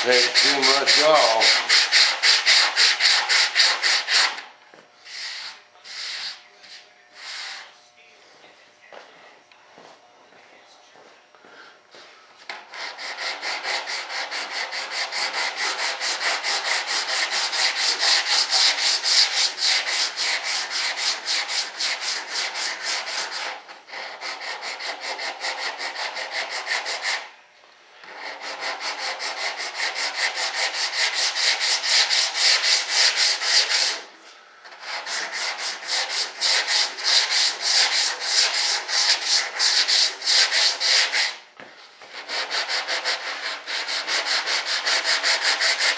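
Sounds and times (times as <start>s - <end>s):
sandpaper rubbing back and forth: 0.0s - 4.4s, 5.0s - 7.7s, 12.6s - 27.3s, 28.1s - 34.1s, 34.7s - 41.4s, 42.0s - 45.9s.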